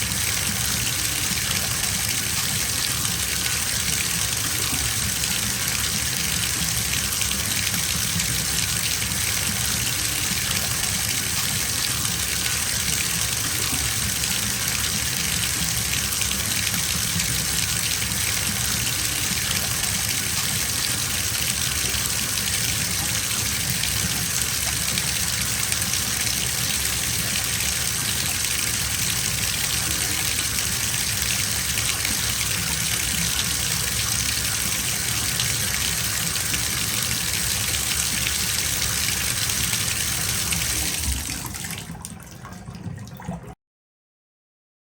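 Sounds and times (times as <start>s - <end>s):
tap water gushing into bathtub: 0.0s - 43.6s.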